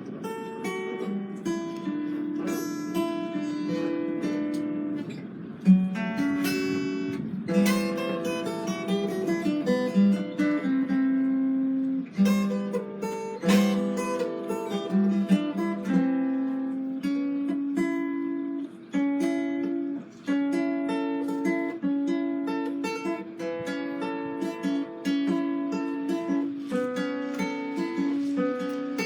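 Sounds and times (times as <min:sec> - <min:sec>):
plucked string instrument melody: 0:00.0 - 0:29.0.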